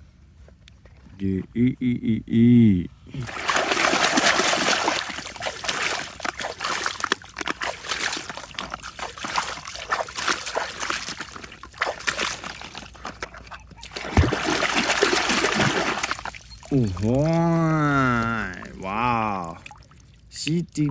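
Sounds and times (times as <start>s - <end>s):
water splashing over plastic toys: 3.2s - 20.9s.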